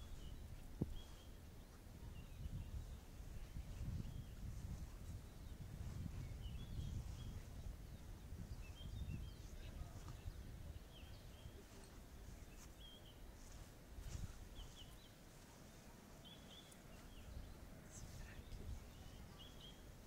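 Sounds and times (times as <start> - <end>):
low rumble on microphone: 0.0 - 20.0
small birds chirping: 0.0 - 20.0.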